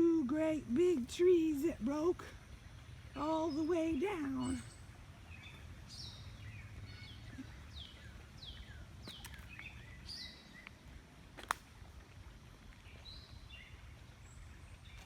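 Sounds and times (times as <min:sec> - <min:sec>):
birds chirping: 0:00.0 - 0:11.0, 0:12.7 - 0:15.0
steady low rumble: 0:00.0 - 0:15.0.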